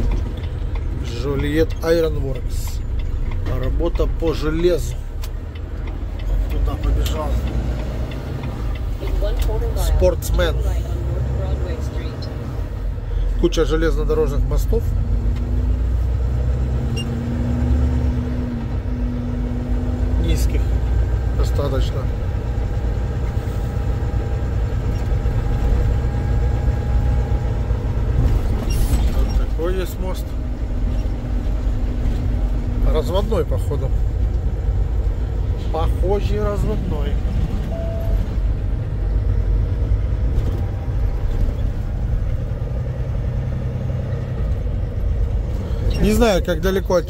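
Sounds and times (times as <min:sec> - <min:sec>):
diesel truck engine rumbling: 0:00.0 - 0:47.0.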